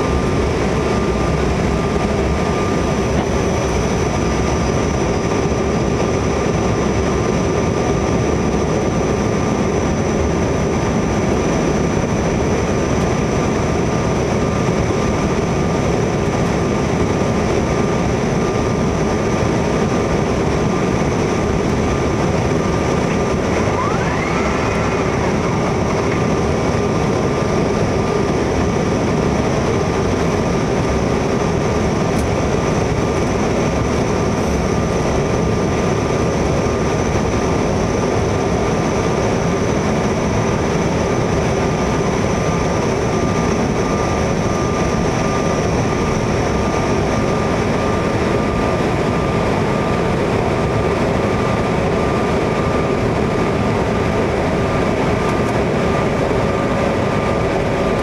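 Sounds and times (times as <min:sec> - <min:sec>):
aircraft cabin roar: 0:00.0 - 0:58.0
thin steady whine: 0:00.0 - 0:58.0.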